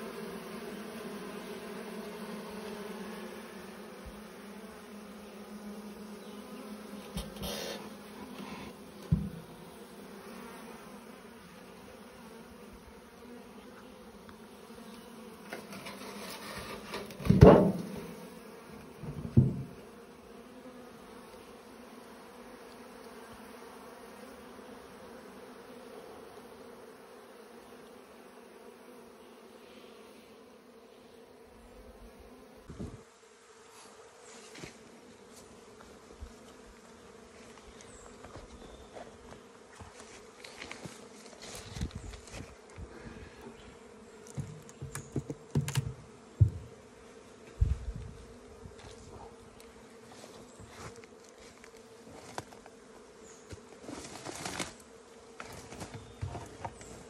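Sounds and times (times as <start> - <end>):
honeybees buzzing: 0.0 - 57.0.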